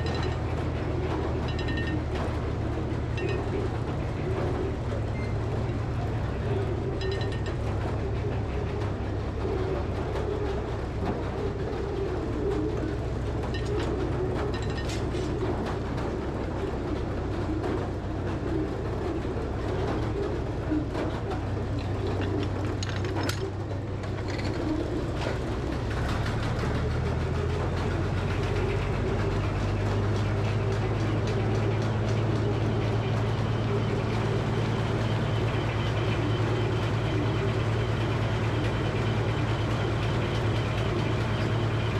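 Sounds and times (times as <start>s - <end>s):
sawmill mechanical drone: 0.0s - 41.9s.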